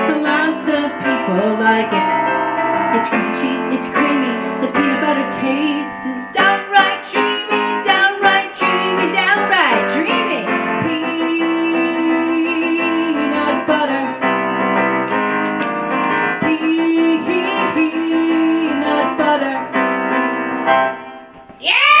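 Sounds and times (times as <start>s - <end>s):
electronic keyboard playing: 0.0s - 21.4s.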